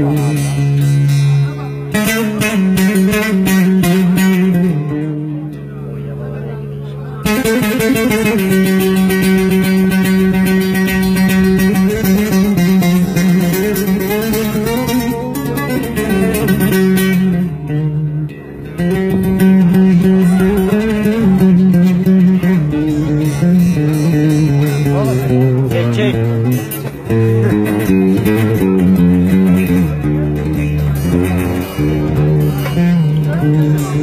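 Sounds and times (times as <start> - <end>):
long-necked lute melody: 0.0 - 34.0.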